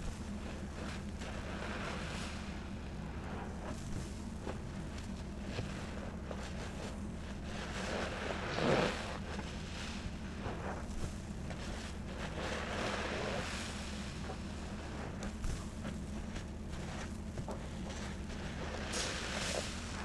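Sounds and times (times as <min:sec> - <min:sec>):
sponges squishing in foam: 0:00.0 - 0:20.0.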